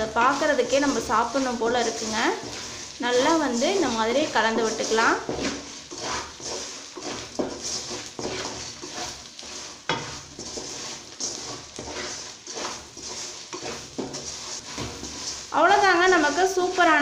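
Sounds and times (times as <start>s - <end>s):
oil sizzling: 0.0s - 17.0s
spatula scraping metal pan: 0.0s - 17.0s.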